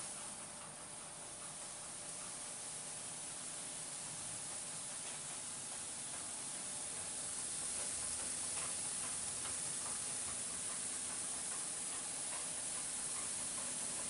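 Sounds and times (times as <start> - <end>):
car wash water spray and brushes: 0.0 - 14.0.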